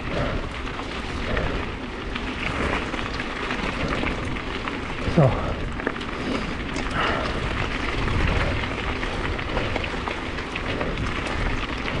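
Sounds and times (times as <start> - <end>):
bike tyres crunching on gravel: 0.0 - 12.0.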